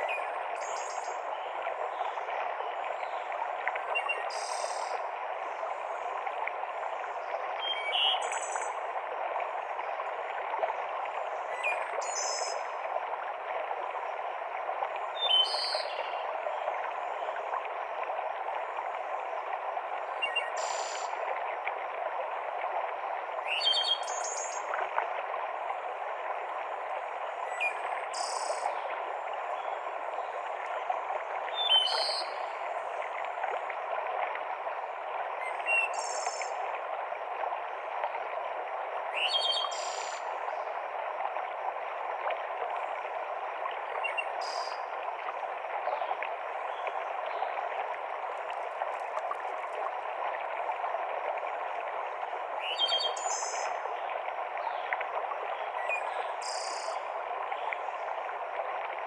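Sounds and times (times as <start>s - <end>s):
stream rushing water: 0.0s - 59.0s.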